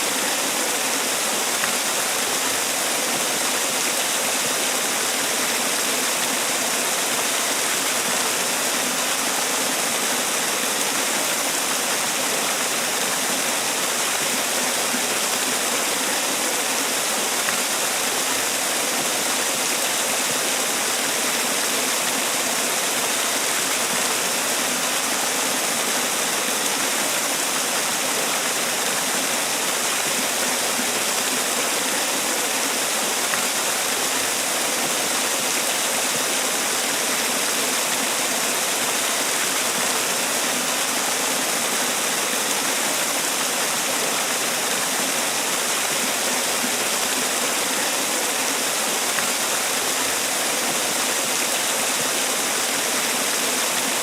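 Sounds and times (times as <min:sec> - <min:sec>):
waterfall falling and splashing: 0:00.0 - 0:54.0.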